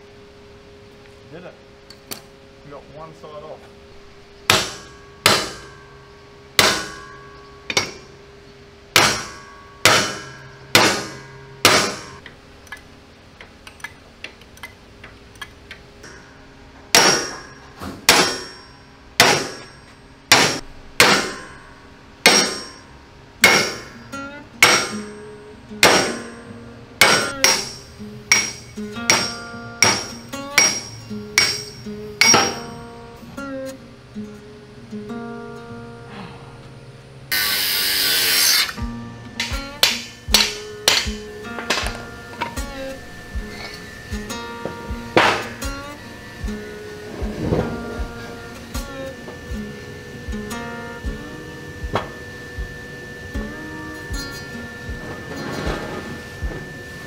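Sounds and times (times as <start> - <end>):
hammer striking steel: 4.5 - 8.1, 8.9 - 12.8, 13.8 - 32.9, 37.3 - 57.0.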